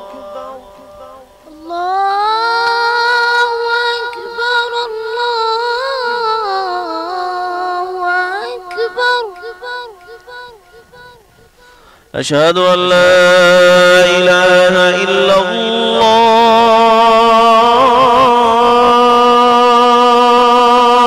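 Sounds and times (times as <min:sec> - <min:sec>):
man singing call to prayer: 0:00.0 - 0:21.0.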